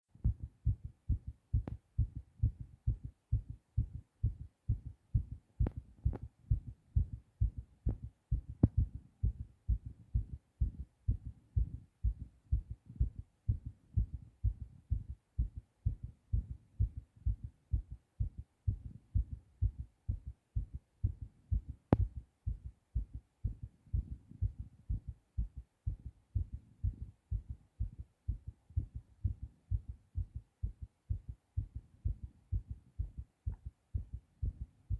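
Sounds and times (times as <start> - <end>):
fast heartbeat: 0.1 - 34.9.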